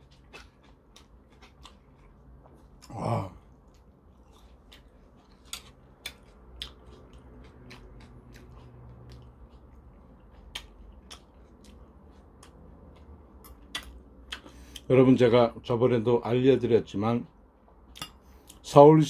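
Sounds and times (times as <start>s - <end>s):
man chewing and smacking: 0.0s - 14.9s, 17.2s - 18.6s.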